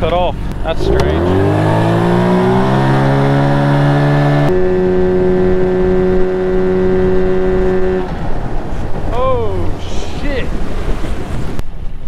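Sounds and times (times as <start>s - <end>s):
outboard motor running: 0.0s - 11.6s
water noise: 0.0s - 12.0s
wind: 0.0s - 12.0s.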